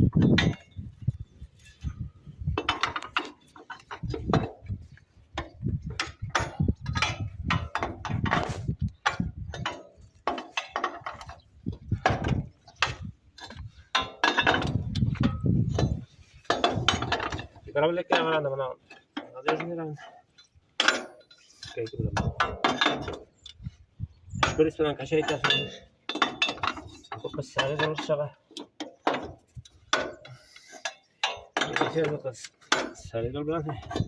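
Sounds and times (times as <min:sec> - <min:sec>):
metal clanks and knocks: 0:00.0 - 0:34.0.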